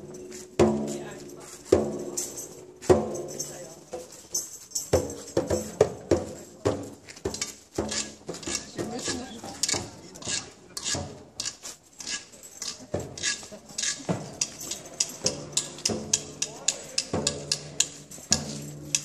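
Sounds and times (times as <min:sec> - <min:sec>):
tambourine jingles: 0:00.0 - 0:09.2, 0:12.1 - 0:19.0.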